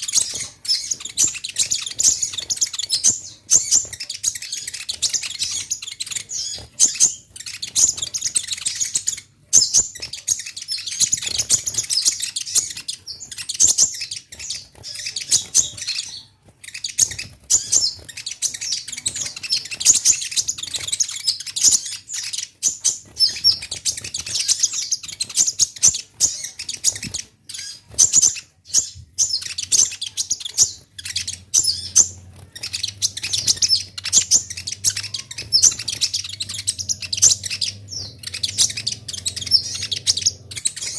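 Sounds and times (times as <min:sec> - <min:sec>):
sunbird twittering song: 0:00.0 - 0:40.9.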